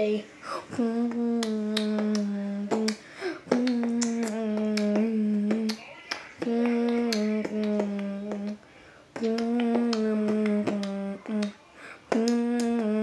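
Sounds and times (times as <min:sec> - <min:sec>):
beatboxing hummed note: 0:00.7 - 0:05.8, 0:06.4 - 0:08.6, 0:09.2 - 0:13.0
beatboxing clicks: 0:01.0 - 0:08.6, 0:09.2 - 0:13.0.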